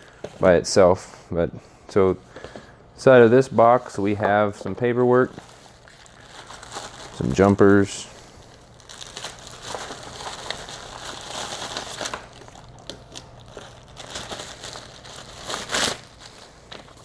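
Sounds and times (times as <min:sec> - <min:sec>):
paper and packaging rustling: 0:03.3 - 0:17.0.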